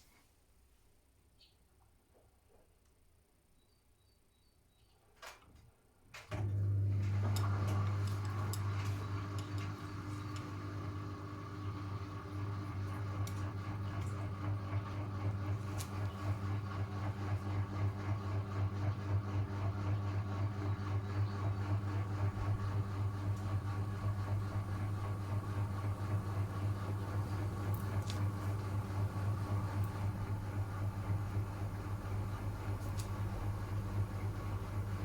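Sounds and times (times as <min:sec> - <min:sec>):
washing machine pump hum: 0:06.3 - 0:35.0.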